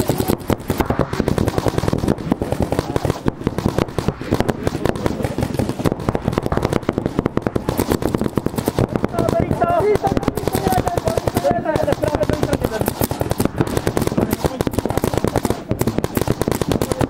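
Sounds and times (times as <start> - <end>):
paintball markers firing rapidly: 0.0 - 17.0.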